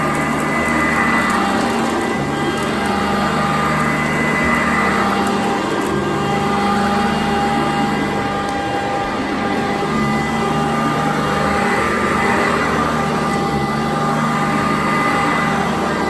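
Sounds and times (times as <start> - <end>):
vacuum cleaner on carpet: 0.0 - 16.0.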